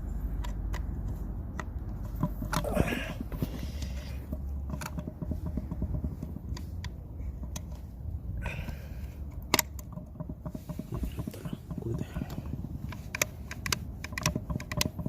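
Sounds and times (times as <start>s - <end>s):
light clicks and knocks of handling: 0.0s - 15.0s
low steady rumble: 0.0s - 15.0s.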